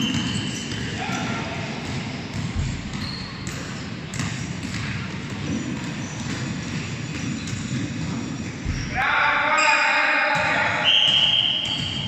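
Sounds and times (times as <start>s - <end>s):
basketballs bouncing on floor: 0.0s - 9.0s, 10.3s - 12.0s.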